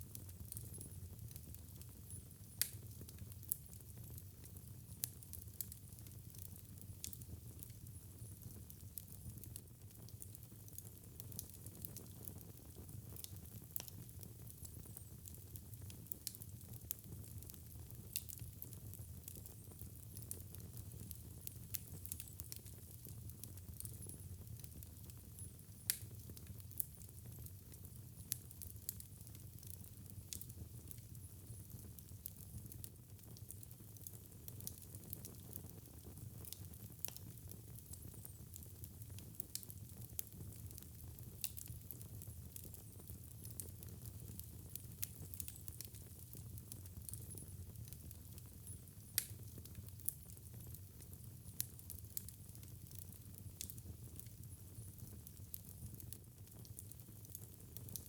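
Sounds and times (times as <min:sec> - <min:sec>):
low rumble of burning fire: 0:00.0 - 0:58.0
wood fire crackling and popping: 0:00.0 - 0:58.0.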